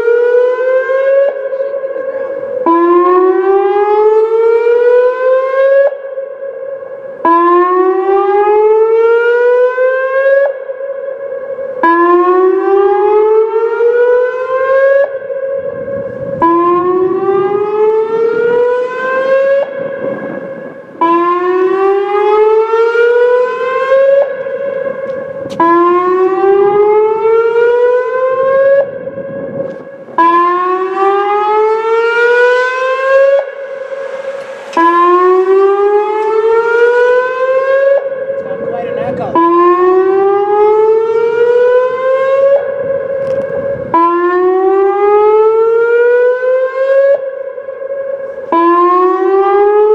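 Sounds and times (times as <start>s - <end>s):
warning siren whooping: 0.0s - 49.9s.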